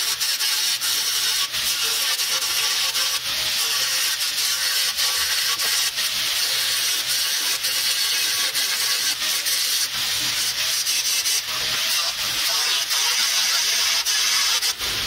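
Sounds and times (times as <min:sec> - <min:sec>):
grinder grinding steel: 0:00.0 - 0:15.0.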